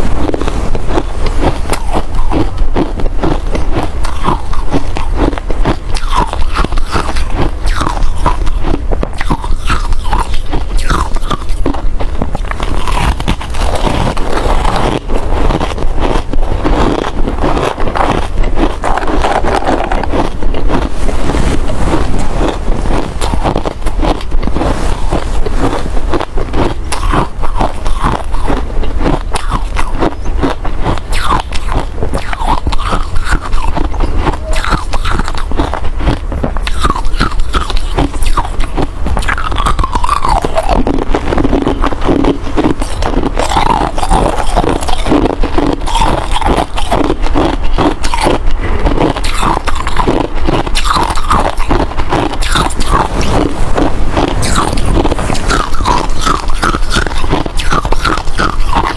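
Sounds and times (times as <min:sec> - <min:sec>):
ice crunching: 0:00.0 - 0:58.9.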